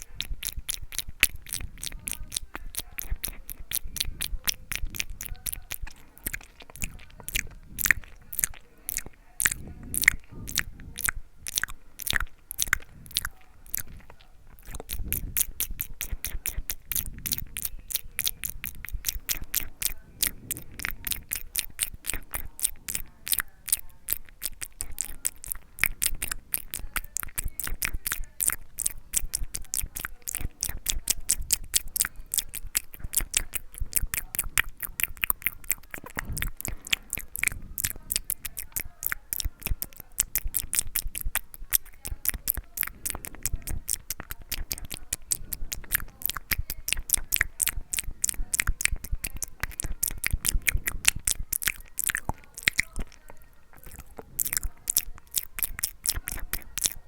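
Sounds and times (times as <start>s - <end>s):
wet tongue and lip clicks: 0.0s - 57.0s.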